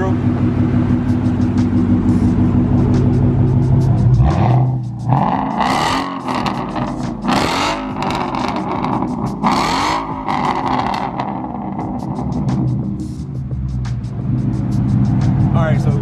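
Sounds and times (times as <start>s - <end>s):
loud exhaust surge: 0.0s - 15.8s
car engine revving: 0.0s - 16.0s.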